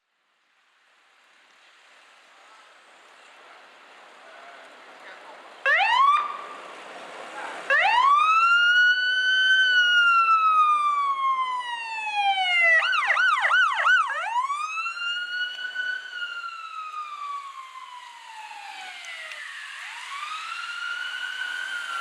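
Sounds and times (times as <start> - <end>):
emergency vehicle siren wailing: 3.6 - 22.0.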